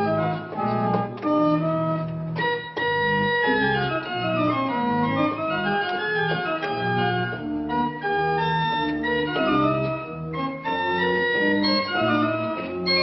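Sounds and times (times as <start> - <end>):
pipe organ playing: 0.0 - 13.0.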